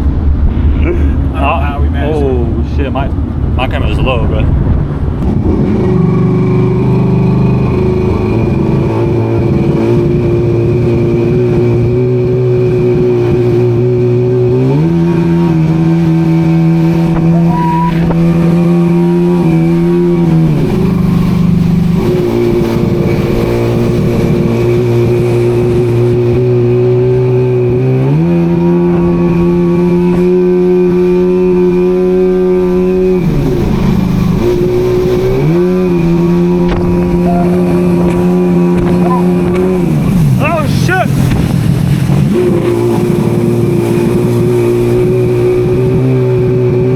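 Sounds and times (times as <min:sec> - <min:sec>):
vehicle engine revving: 0:04.5 - 0:46.9.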